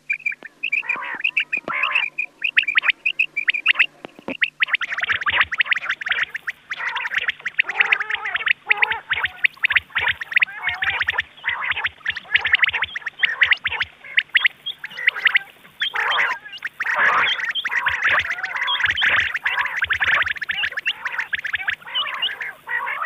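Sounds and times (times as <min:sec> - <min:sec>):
faint low hum: 0:00.0 - 0:23.0
quail calling in clicking notes: 0:00.0 - 0:23.0.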